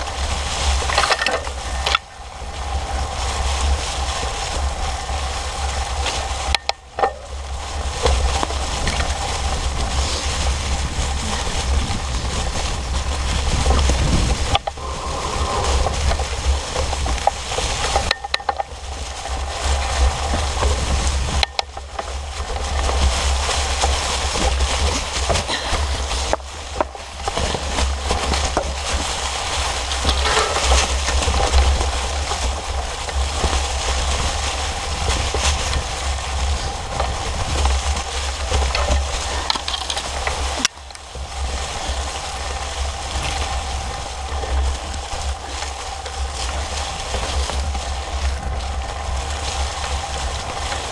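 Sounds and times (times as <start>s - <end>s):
bike tyres rustling dry leaves: 0.0s - 50.9s
low rumble: 0.0s - 50.9s.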